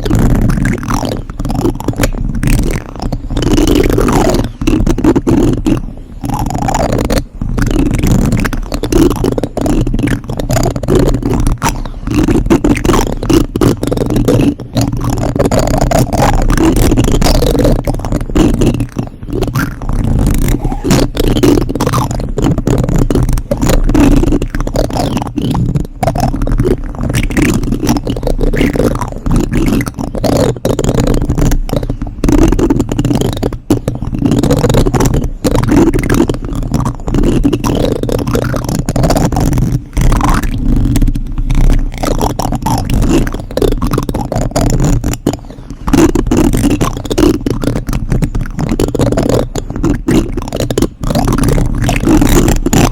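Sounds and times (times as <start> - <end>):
plastic spoons scraping microphone: 0.0 - 52.9.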